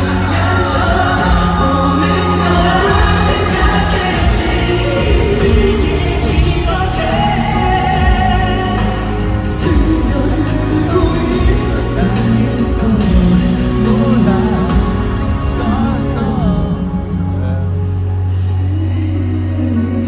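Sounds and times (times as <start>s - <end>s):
live pop concert music with singing: 0.0s - 20.0s.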